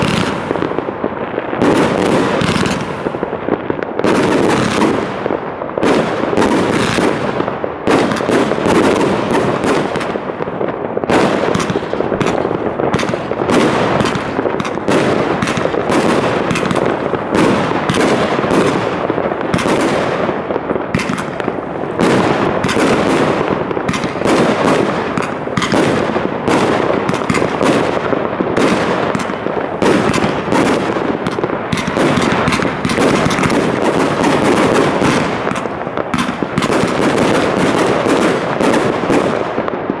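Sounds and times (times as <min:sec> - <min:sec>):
fireworks launching and bursting: 0:00.0 - 0:40.0.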